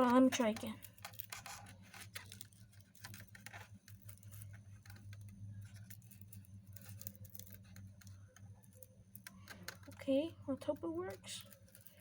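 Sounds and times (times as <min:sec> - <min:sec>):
fingers clicking and scratching: 0:00.0 - 0:12.0
low steady hum: 0:00.0 - 0:12.0.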